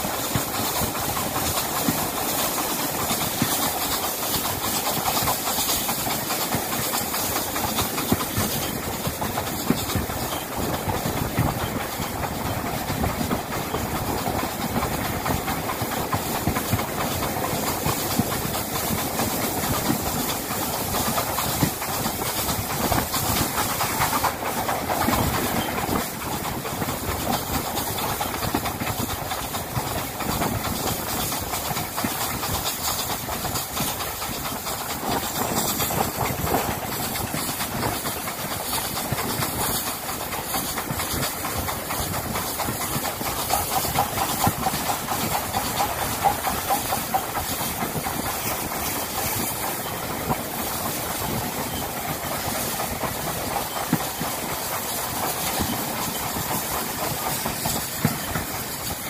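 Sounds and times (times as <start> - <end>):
rushing hiss of steam and wind: 0.0 - 59.0
train carriage rattling on track: 0.0 - 59.0.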